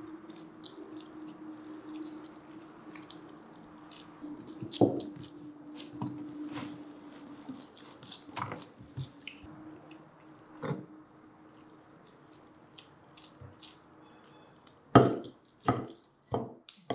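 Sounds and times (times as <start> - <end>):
chewing: 0.0 - 6.0, 7.1 - 16.9.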